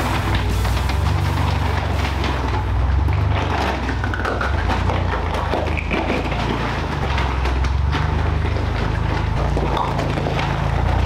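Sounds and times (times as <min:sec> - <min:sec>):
tyres crunching on gravel: 0:00.0 - 0:11.0
vehicle engine running: 0:00.0 - 0:11.0.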